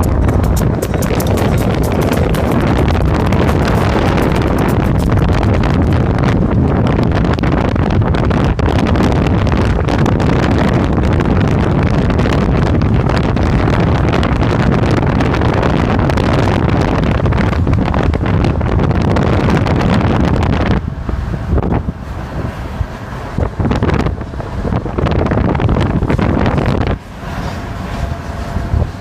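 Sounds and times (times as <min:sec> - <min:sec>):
freight train rumbling past: 0:00.0 - 0:29.0
wind buffeting microphone: 0:00.0 - 0:29.0.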